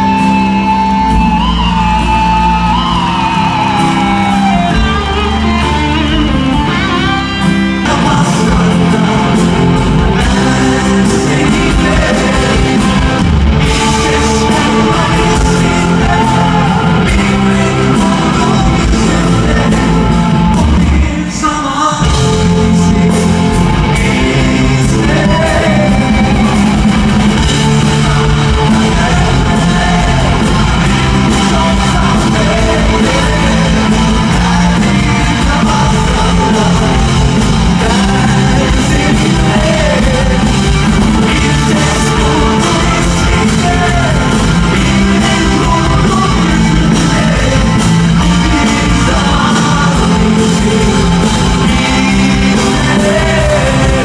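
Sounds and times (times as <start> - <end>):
man singing: 0.0 - 54.0
pop-rock band playing: 0.0 - 54.0.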